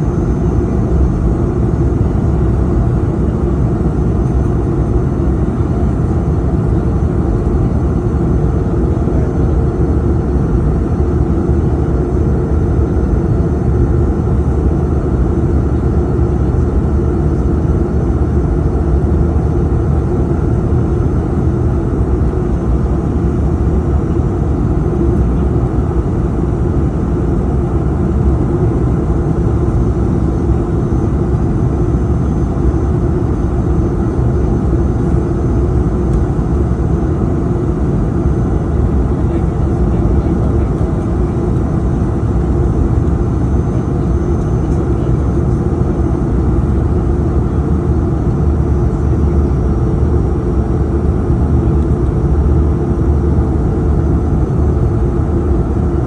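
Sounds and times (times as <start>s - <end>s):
jet engine rumble: 0.0s - 56.0s
steady cabin hum: 0.0s - 56.0s.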